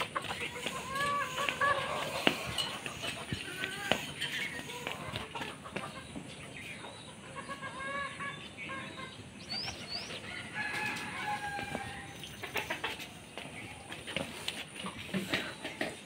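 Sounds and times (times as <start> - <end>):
chickens clucking and calling: 0.0 - 16.0.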